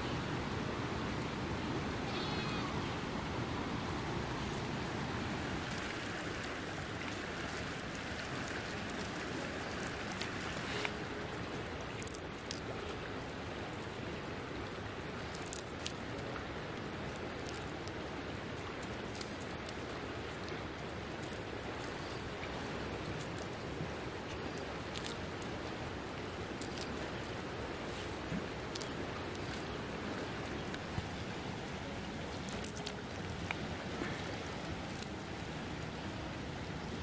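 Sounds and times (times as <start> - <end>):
steady rushing ambience: 0.0 - 37.0
faint ticks and rustles: 5.5 - 37.0.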